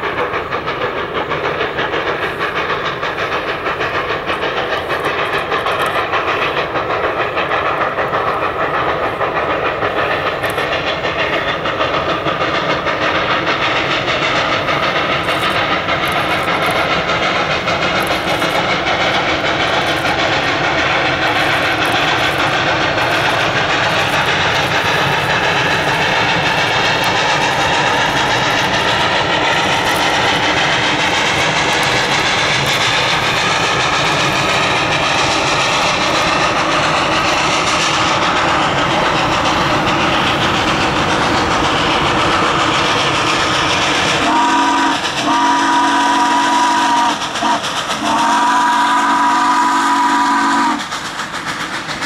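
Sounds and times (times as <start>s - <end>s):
steam locomotive working hard: 0.0s - 52.0s.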